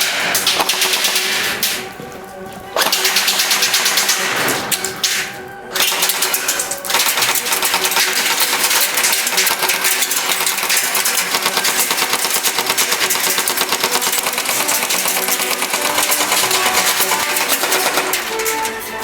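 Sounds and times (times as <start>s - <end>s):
airsoft gun firing full-auto: 0.0s - 1.9s, 2.8s - 4.6s, 5.8s - 18.2s.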